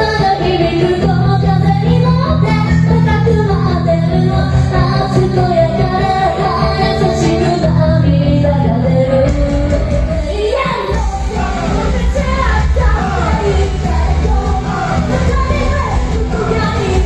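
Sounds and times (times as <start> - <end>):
live band playing: 0.0 - 17.0
woman singing: 0.0 - 17.0.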